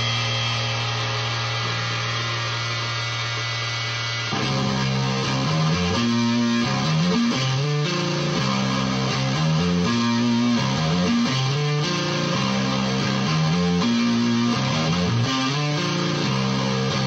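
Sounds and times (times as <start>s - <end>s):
fuzzy electric guitar riff: 0.0s - 17.0s.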